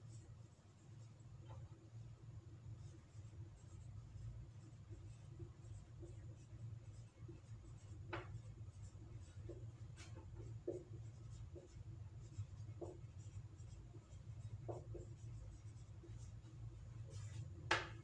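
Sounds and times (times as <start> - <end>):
marker writing on whiteboard: 0.0 - 18.0
steady low hum: 0.0 - 18.0.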